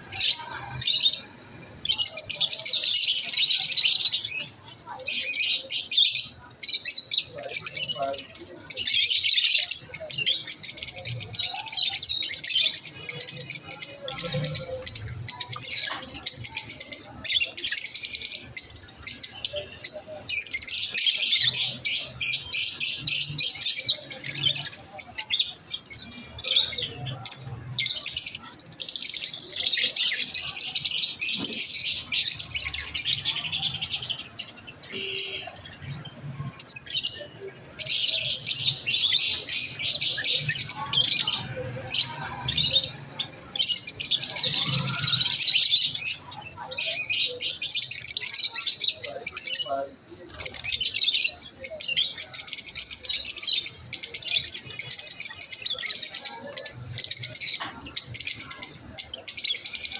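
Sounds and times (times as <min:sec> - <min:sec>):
lovebirds chirping: 0:00.0 - 0:59.9.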